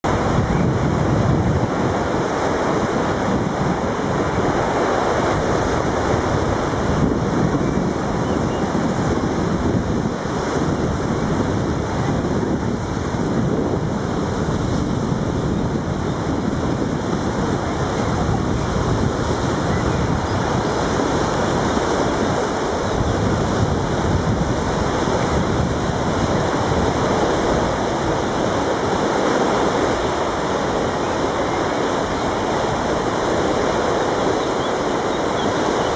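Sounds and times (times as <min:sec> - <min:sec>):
river water rushing: 0:00.0 - 0:35.9
wind buffeting microphone: 0:00.0 - 0:35.9.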